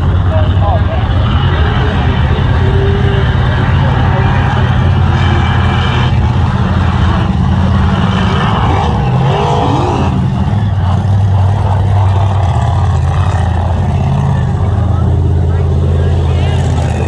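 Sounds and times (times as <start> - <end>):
truck engine running loud: 0.0 - 17.0.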